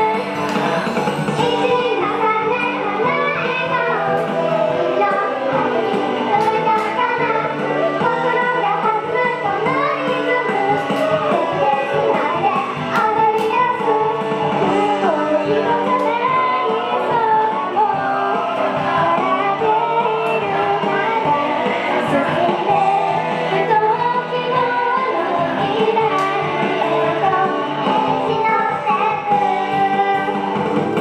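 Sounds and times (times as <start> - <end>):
upbeat backing music: 0.0 - 31.0
girls singing in unison: 1.4 - 30.4.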